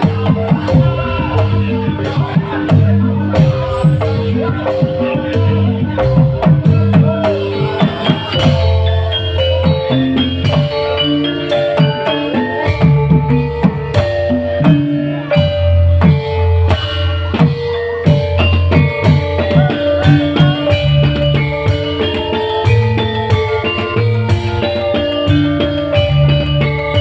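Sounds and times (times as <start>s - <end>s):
drum beat: 0.0s - 27.0s
keyboard notes: 0.0s - 27.0s.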